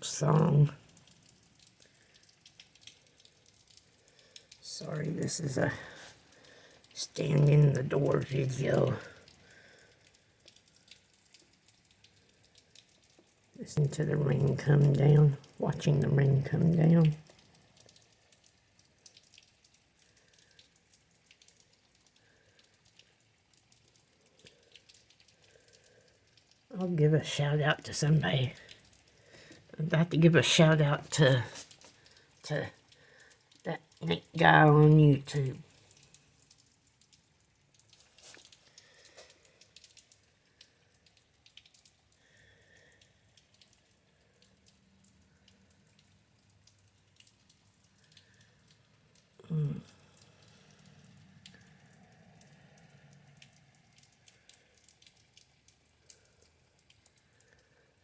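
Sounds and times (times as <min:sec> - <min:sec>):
drips and taps: 0:00.0 - 0:58.0
faint rain hiss: 0:00.0 - 0:58.0.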